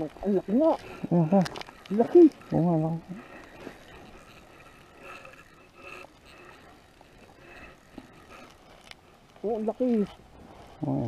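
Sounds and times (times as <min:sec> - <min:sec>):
fishing reel whirring: 0:00.0 - 0:11.0.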